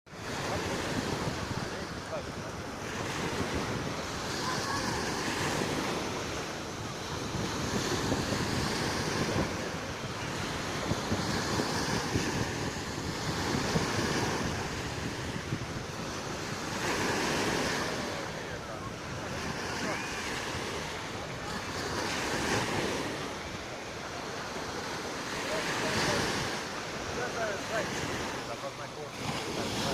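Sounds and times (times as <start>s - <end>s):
wind buffeting microphone: 0.1s - 24.4s
surf washing onto shore: 0.1s - 29.9s.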